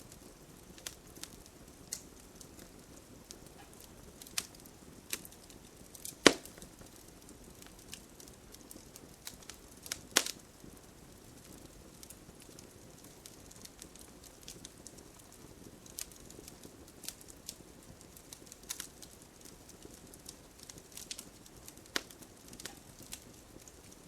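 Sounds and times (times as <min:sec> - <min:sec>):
burning wood crackling: 0:00.0 - 0:24.0
campfire flame rushing: 0:00.1 - 0:24.0.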